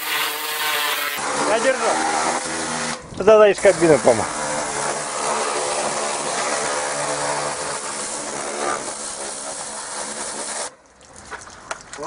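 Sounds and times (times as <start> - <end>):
pressure washer jet hissing: 0.0 - 10.8
pump motor humming: 0.0 - 11.3.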